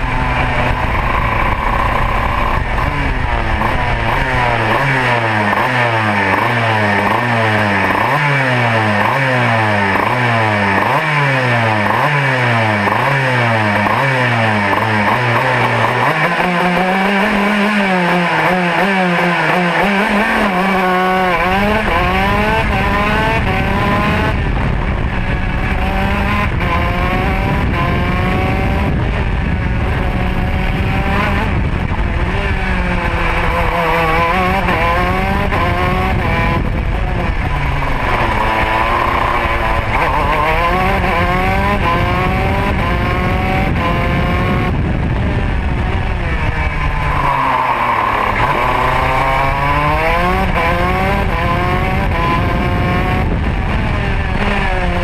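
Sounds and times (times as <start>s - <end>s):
low rumble of wind: 0.0s - 18.8s, 19.8s - 55.0s
two-stroke kart engine revving: 0.0s - 55.0s.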